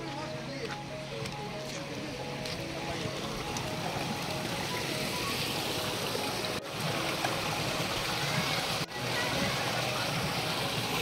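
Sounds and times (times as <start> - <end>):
stream and waterfalls rushing: 0.0 - 11.0.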